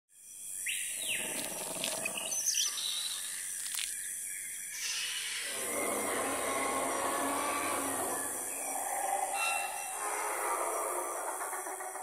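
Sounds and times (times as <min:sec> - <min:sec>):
bird calls and chirps: 0:00.2 - 0:12.0.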